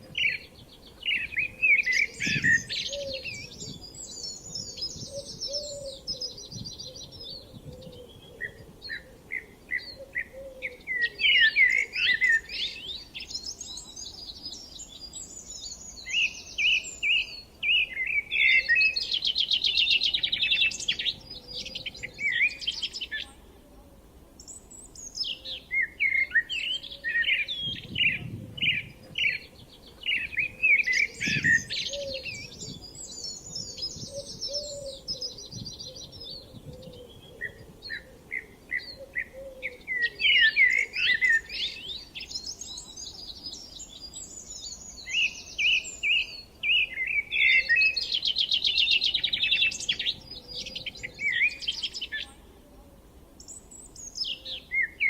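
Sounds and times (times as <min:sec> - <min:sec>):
songbirds chirping and warbling: 0:00.0 - 0:55.0.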